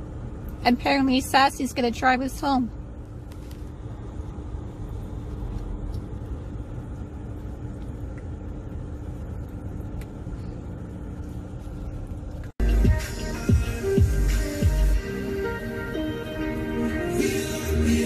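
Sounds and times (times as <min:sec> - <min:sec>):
road and engine rumble in car: 0:00.0 - 0:18.0.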